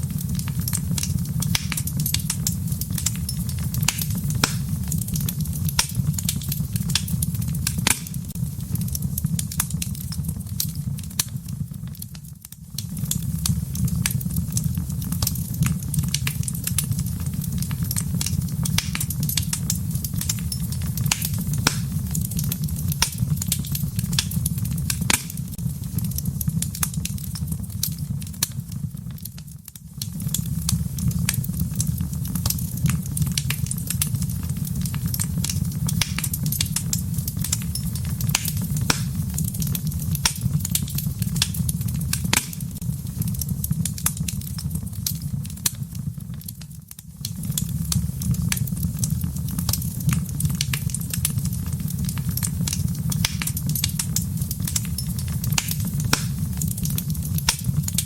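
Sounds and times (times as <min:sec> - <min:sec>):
low rumble of flames: 0:00.0 - 0:58.0
wood fire crackling and snapping: 0:00.0 - 0:58.0.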